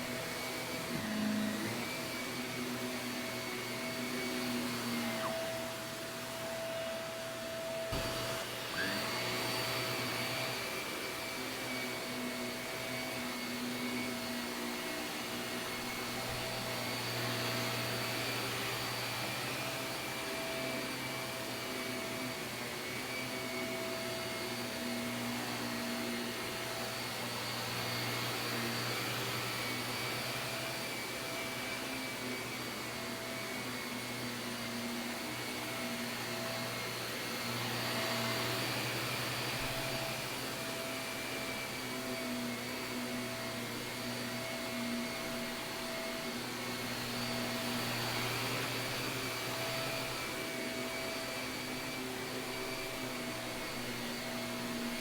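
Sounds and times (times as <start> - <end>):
vacuum cleaner on carpet: 0.0 - 55.0.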